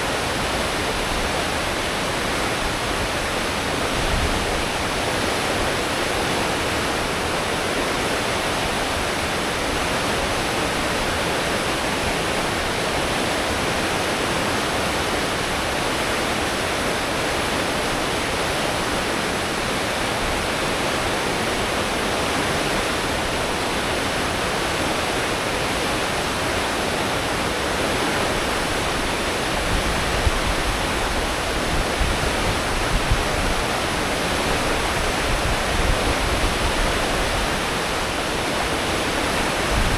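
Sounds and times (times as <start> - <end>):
ship wake water churning: 0.0 - 39.9.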